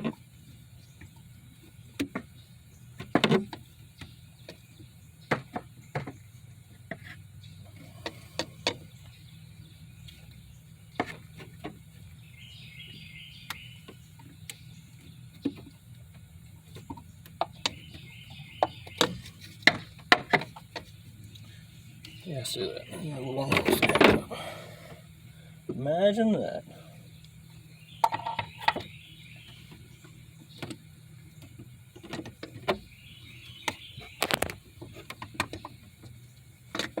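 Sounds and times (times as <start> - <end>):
steady low hum: 0.0 - 36.8.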